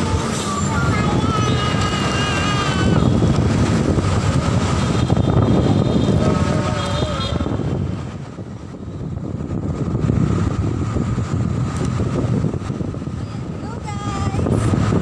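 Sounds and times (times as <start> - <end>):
street traffic: 0.0 - 15.0
wind rumbling on microphone: 0.0 - 15.0.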